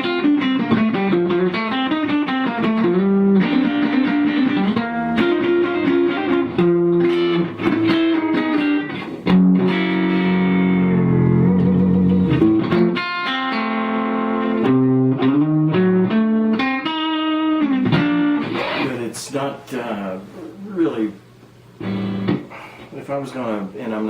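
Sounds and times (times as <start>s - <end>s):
electric guitar lead line: 0.0s - 19.2s, 21.8s - 22.8s.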